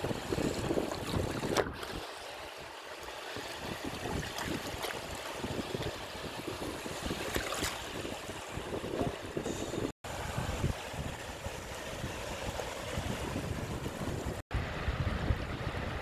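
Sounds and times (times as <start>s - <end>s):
water splashes: 0.0s - 14.4s
small waves lapping in shallow water: 0.0s - 16.0s.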